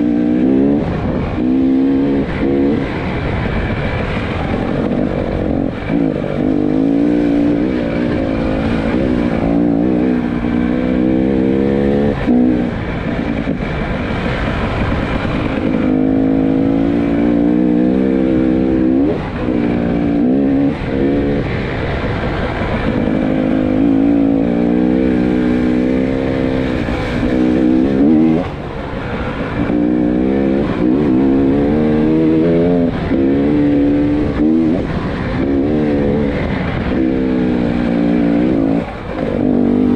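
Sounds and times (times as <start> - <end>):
motorcycle engine revving: 0.0 - 39.9
trail noise: 0.0 - 39.9
wind rush: 0.0 - 39.9.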